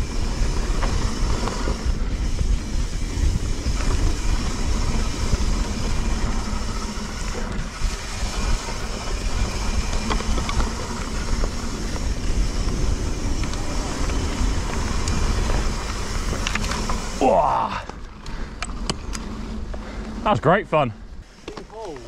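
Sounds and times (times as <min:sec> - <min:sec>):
wind buffeting microphone: 0:00.0 - 0:20.4
bike rattling: 0:00.0 - 0:22.0
bike tyres rolling on dirt: 0:00.0 - 0:22.0.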